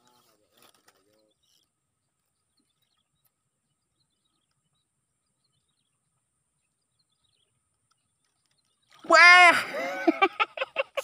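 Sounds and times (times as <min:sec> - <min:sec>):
faint bird chirps: 0:00.0 - 0:09.1.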